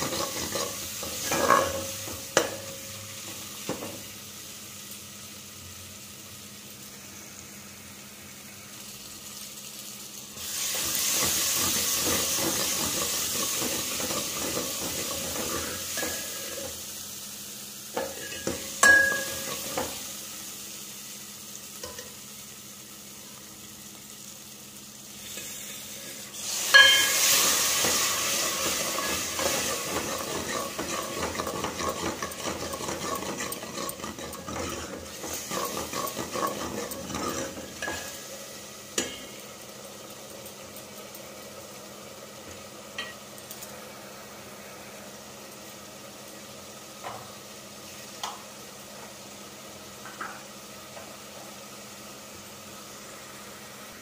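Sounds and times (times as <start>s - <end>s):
spices sizzling in oil: 0.0s - 54.0s.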